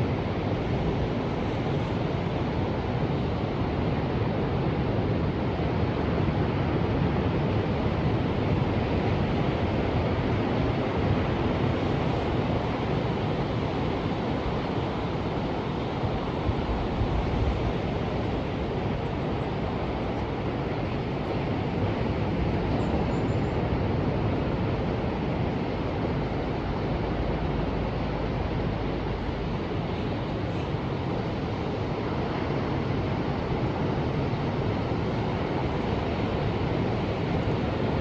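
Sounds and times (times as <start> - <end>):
ocean surf washing: 0.0 - 38.0.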